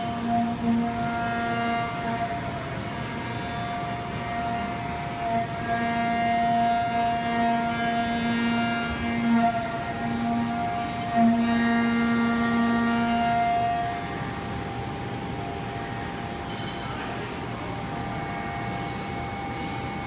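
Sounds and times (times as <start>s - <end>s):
mill spindle whine: 0.0s - 20.0s.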